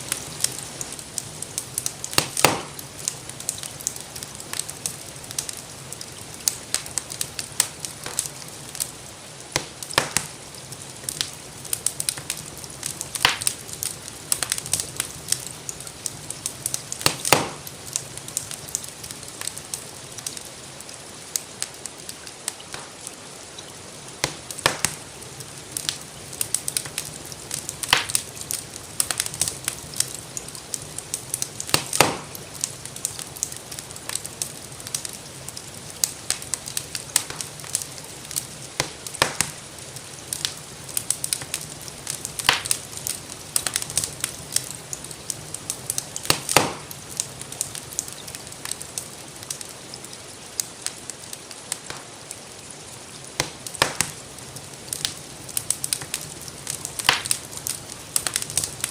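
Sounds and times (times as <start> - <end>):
gentle rain hiss: 0.0 - 58.9
wood fire crackling: 0.0 - 58.9.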